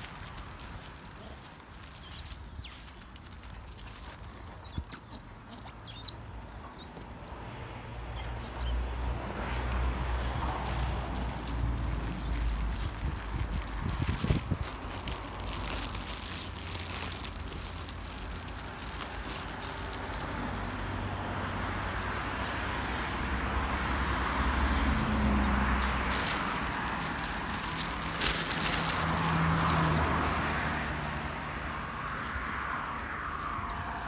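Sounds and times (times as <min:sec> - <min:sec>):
low traffic rumble: 0:00.0 - 0:34.0
vehicles passing: 0:00.0 - 0:34.0.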